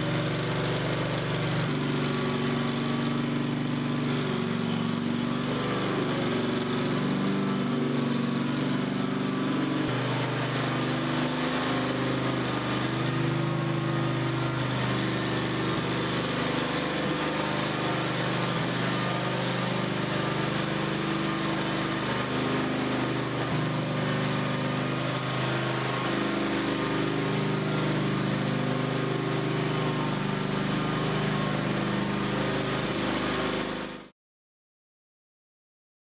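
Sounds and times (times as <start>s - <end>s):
floor grinder engine running: 0.0s - 34.1s.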